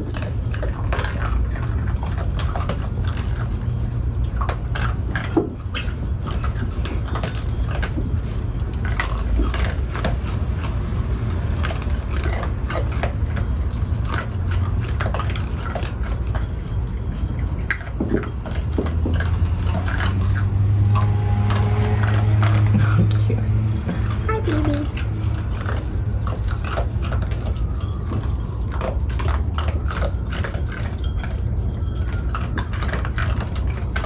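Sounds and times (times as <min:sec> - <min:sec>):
raccoons crunching kibble: 0:00.0 - 0:34.0.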